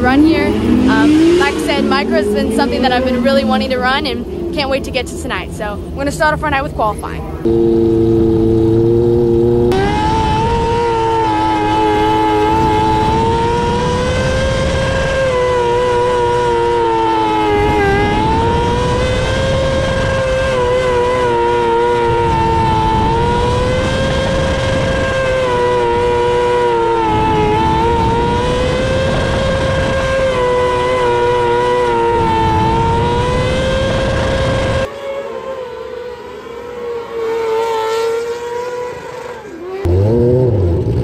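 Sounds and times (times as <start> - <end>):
motorcycle engine running hard: 0.0 - 34.9.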